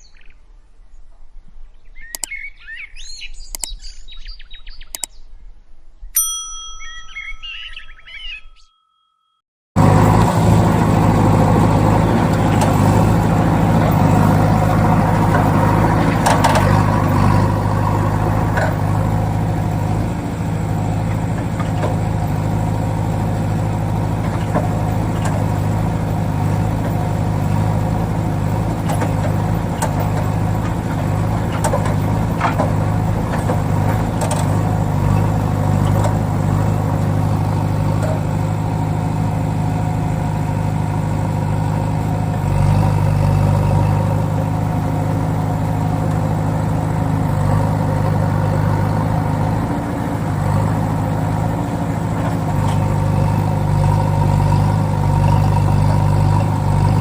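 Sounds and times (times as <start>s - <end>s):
vehicle engine idling: 9.8s - 57.0s.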